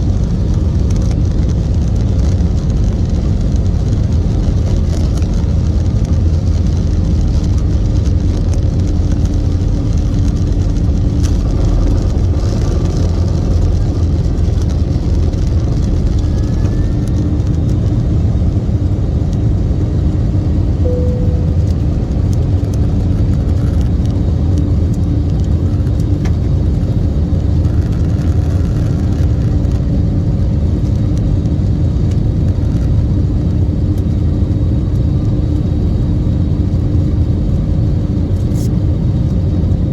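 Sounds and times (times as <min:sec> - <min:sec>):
faint constant hum: 0:00.0 - 0:39.9
jet engine rumble in cabin: 0:00.0 - 0:39.9.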